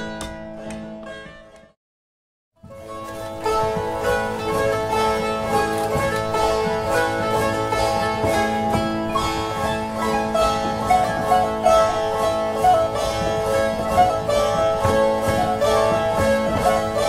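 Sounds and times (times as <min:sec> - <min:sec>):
drone zithers playing dance tune: 0:02.7 - 0:17.0.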